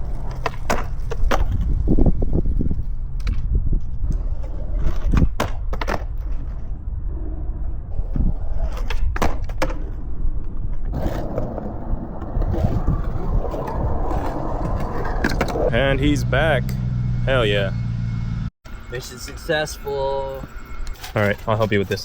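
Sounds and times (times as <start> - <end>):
skateboard wheels rolling on concrete: 0.0 - 17.7.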